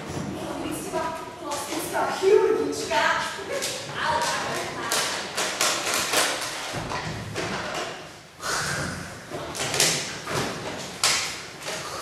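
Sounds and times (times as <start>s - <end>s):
plastic props knocking and rustling: 0.0s - 2.0s, 3.2s - 8.2s, 8.8s - 12.0s.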